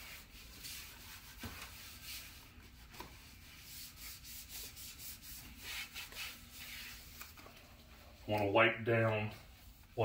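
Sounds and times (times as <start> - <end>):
wipe rubbing on plastic: 0.0 - 8.5, 9.1 - 10.0.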